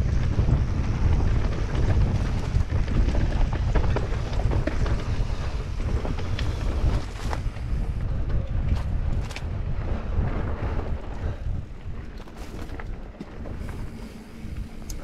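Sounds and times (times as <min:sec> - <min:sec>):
bike tyres rolling on dirt: 0:00.0 - 0:15.0
wind buffeting microphone: 0:00.0 - 0:15.0
bike clicks and knocks: 0:00.1 - 0:15.0.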